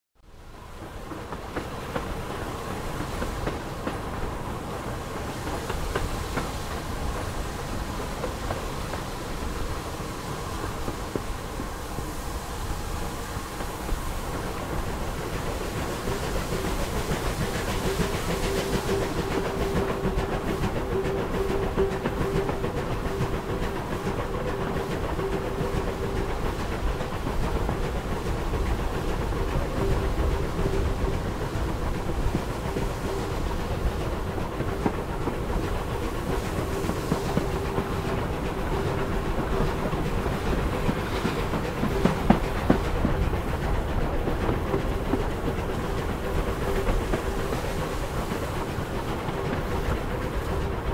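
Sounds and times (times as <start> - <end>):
train wheels clattering on rail: 0.3 - 50.9.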